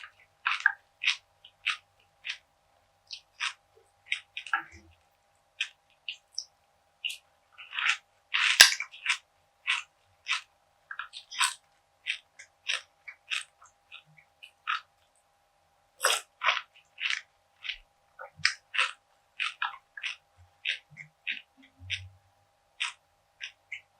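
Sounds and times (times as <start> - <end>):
chewing crunchy seed bar: 0.0 - 2.5, 3.1 - 15.0, 16.0 - 23.9.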